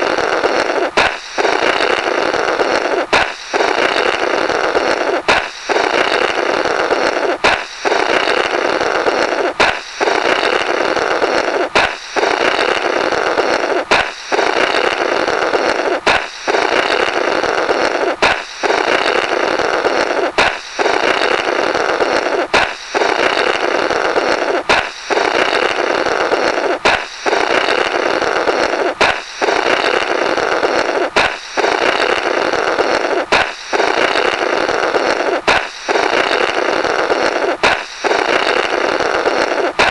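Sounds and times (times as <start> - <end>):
balloon popping: 0.0 - 39.9
rasping blow through balloon: 0.0 - 39.9.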